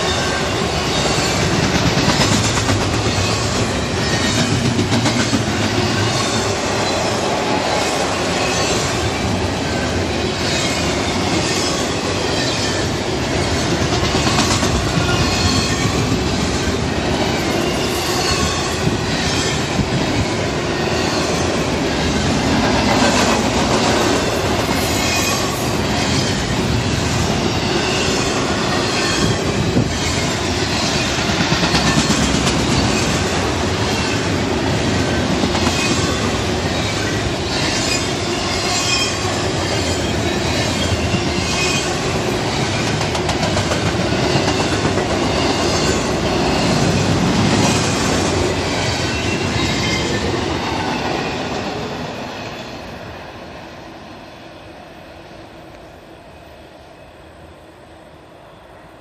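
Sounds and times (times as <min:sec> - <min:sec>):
train wheels clicking: 0:00.0 - 0:09.5, 0:10.3 - 0:20.3, 0:21.3 - 0:51.2
train wheels rumbling on rail: 0:00.0 - 0:56.1.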